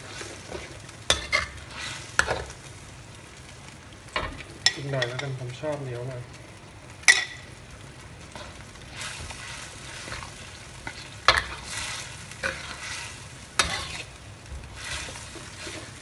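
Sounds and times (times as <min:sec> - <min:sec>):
sauce sizzling: 0:00.0 - 0:16.0.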